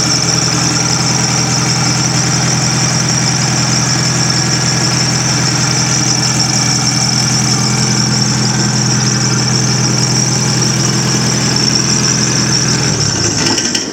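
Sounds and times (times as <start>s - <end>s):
concrete saw engine running: 0.0s - 13.9s.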